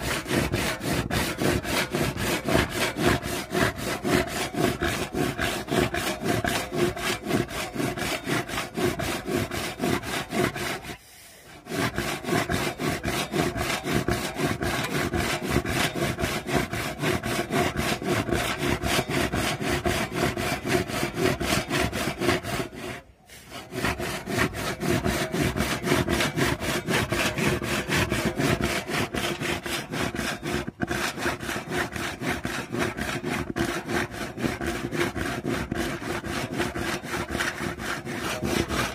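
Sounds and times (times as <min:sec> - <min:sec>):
handsaw cutting wooden plank: 0:00.0 - 0:38.9.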